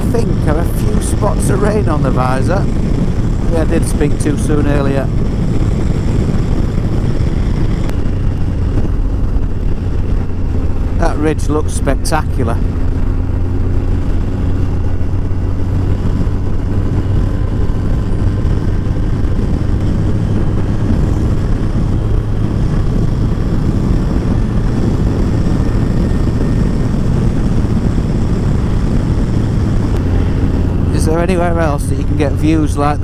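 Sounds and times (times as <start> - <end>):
motorcycle engine drone: 0.0 - 33.0
wind and road noise: 0.0 - 33.0.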